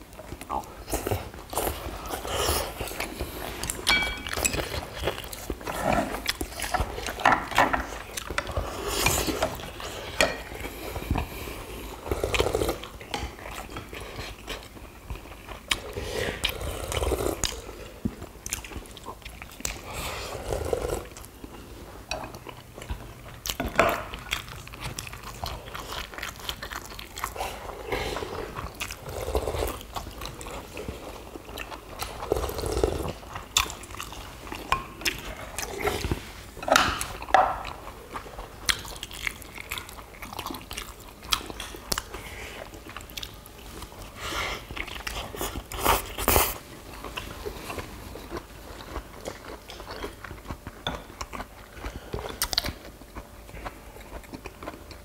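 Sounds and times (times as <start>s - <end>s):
people chewing and crunching food: 0.0s - 55.0s.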